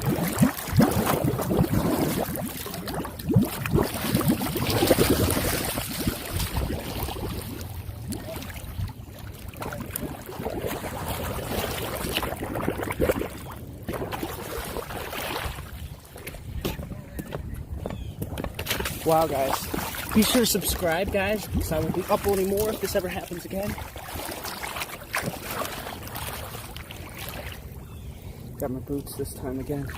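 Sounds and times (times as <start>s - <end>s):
floodwater splashing and sloshing: 0.0s - 29.9s.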